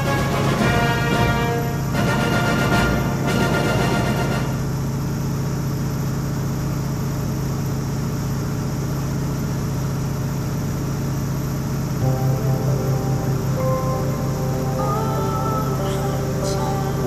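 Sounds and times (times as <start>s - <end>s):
radial engine running steadily: 0.0s - 17.0s.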